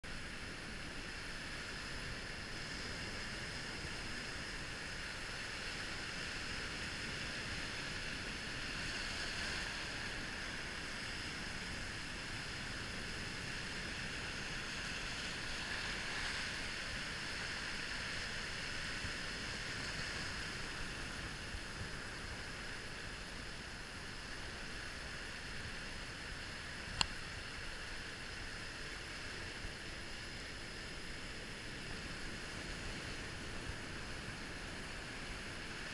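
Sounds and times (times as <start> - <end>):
surf washing over rocks: 0.1 - 35.9.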